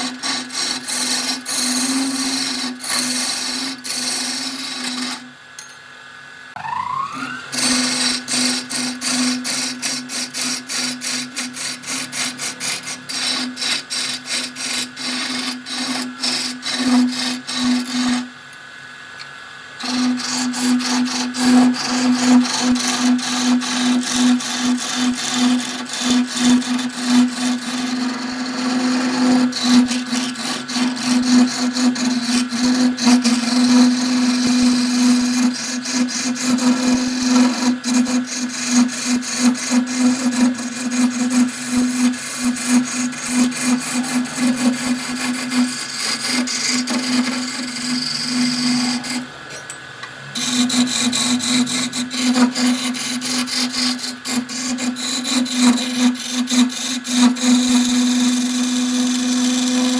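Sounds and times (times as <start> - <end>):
tool scraping spinning wood: 0.0 - 5.8, 6.6 - 18.4, 19.2 - 49.8, 50.4 - 59.9
wood lathe motor whine: 0.0 - 59.9.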